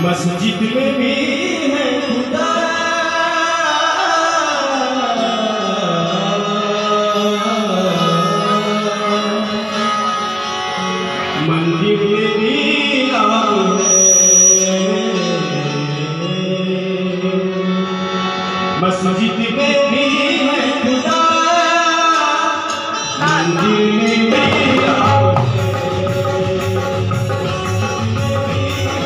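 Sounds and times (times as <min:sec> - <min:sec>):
musical accompaniment: 0:00.0 - 0:29.0.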